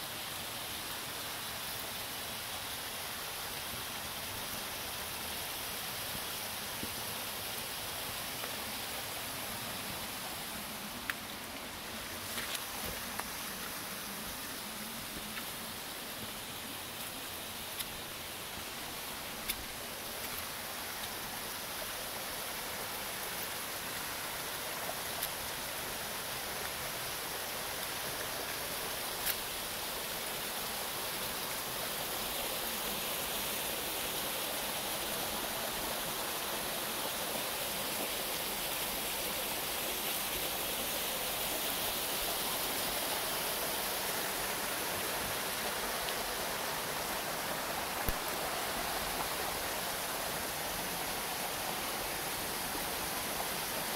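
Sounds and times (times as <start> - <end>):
creek rushing over rocks: 0.1 - 53.9.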